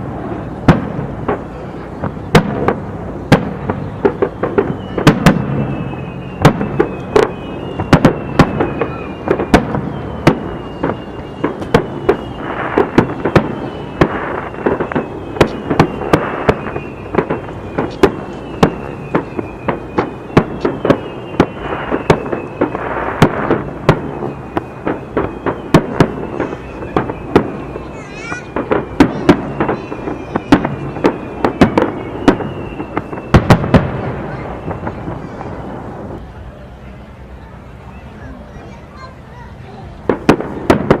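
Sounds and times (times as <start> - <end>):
firework shell bursts and bangs: 0.0 - 35.4, 40.0 - 41.0
fireworks crackling: 0.0 - 41.0
high gliding whistles: 1.5 - 40.0.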